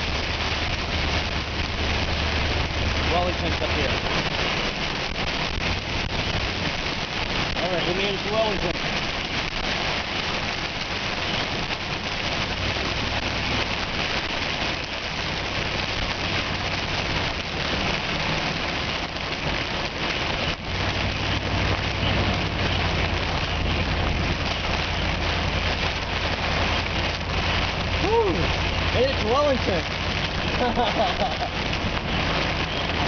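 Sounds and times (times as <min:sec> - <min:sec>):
heavy rain pelting a vehicle: 0:00.0 - 0:33.0.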